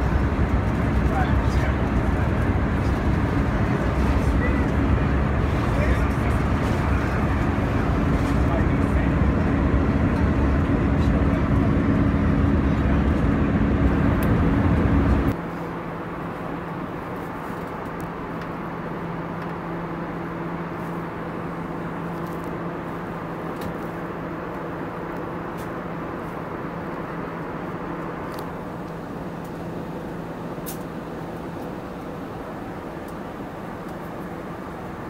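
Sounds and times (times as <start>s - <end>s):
jet engine noise: 0.0s - 35.0s
steady low hum: 0.0s - 35.0s.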